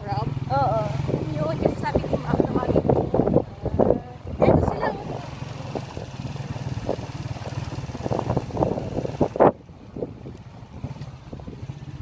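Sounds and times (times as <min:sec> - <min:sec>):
motorcycle engine running: 0:00.0 - 0:12.0
wind noise on microphone: 0:00.6 - 0:12.0.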